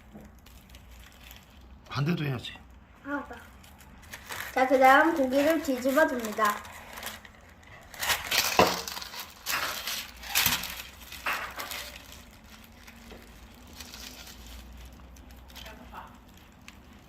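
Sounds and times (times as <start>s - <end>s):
rustling: 3.2s - 17.0s.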